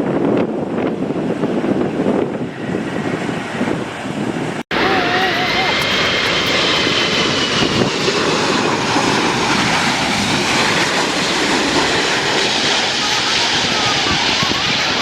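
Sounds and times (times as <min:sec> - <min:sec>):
aircraft engine rushing: 0:00.0 - 0:15.0.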